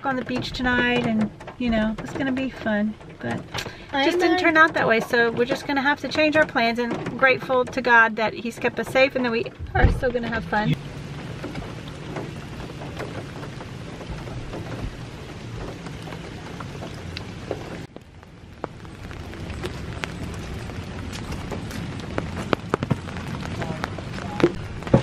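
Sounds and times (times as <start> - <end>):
rain falling on puddles: 0.0 - 25.0.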